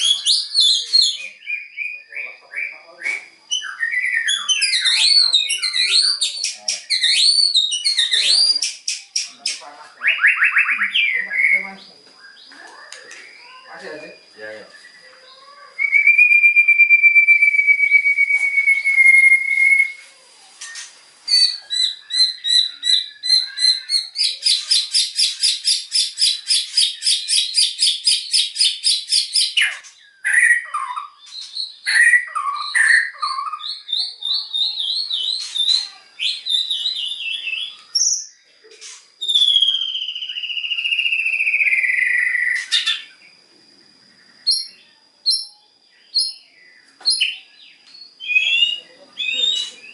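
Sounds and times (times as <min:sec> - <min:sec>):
songbird singing with whistles and trills: 0:00.0 - 0:43.4, 0:44.2 - 0:49.9.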